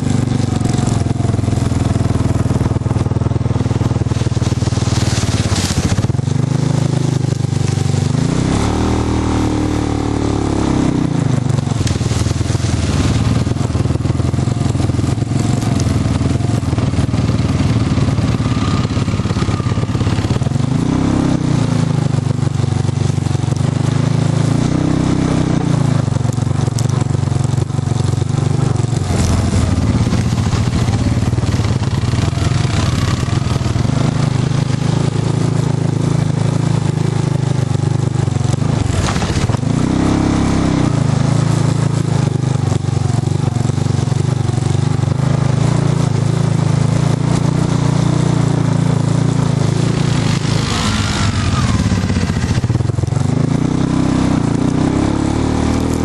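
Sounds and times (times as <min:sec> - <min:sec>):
off-road vehicle engine: 0:00.0 - 0:56.0
tyres rumbling over dirt and leaves: 0:00.0 - 0:56.0.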